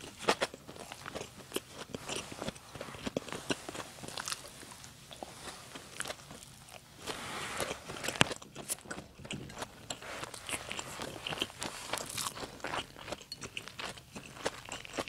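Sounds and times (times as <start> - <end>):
wet chewing with mouth clicks: 0.0 - 15.0.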